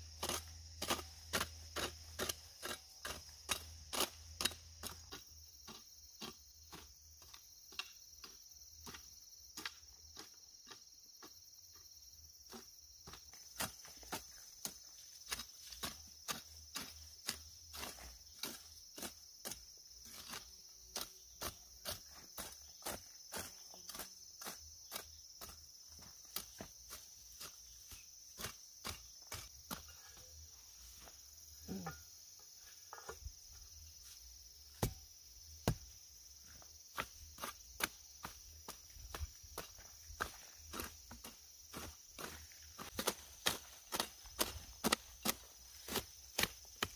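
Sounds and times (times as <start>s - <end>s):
hoe chopping soil: 0.0s - 11.3s, 12.5s - 30.4s, 34.0s - 46.9s
insect drone: 0.0s - 46.9s.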